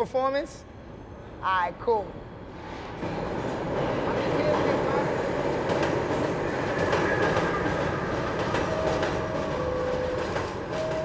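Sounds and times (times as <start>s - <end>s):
subway train wheels rumbling: 0.6s - 11.0s.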